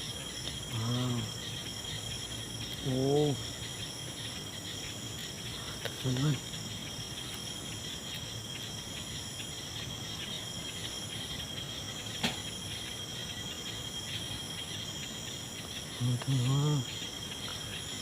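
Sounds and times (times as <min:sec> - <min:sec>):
night insects shrilling: 0:00.0 - 0:18.0.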